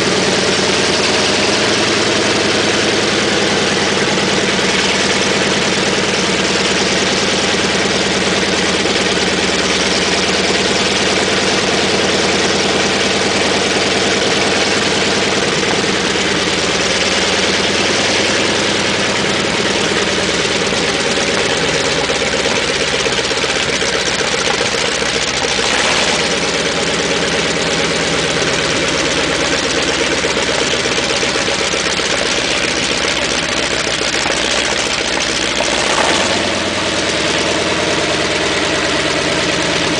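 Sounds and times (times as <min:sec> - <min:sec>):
tank engine idling: 0:00.0 - 0:39.9.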